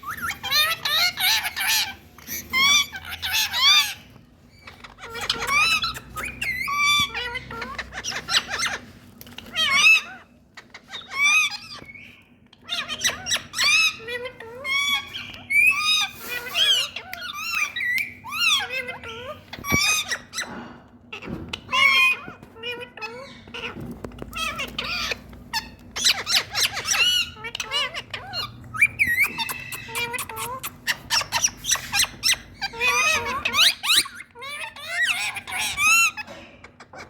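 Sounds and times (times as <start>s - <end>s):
parakeets squawking and chirping: 0.0s - 37.0s.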